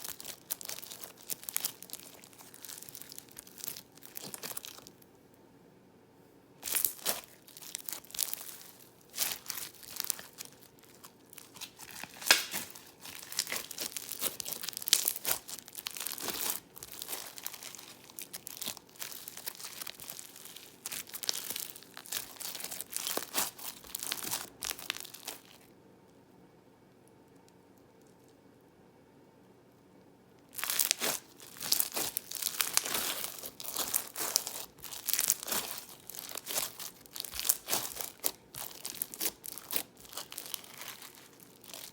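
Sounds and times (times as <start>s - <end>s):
slime crackling and popping: 0.0s - 5.0s, 6.6s - 25.6s, 30.6s - 41.9s.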